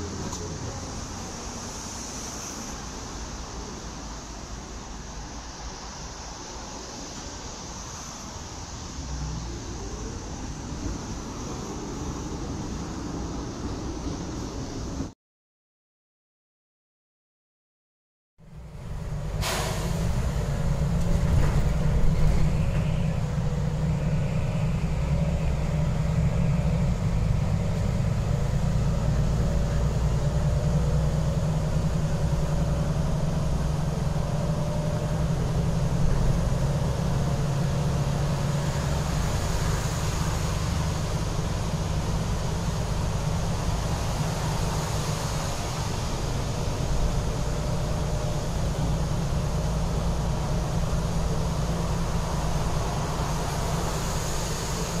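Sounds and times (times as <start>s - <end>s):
bus engine rumble: 0.0s - 15.2s, 18.4s - 55.0s
tyres hissing on wet road: 0.0s - 15.2s, 18.5s - 55.0s.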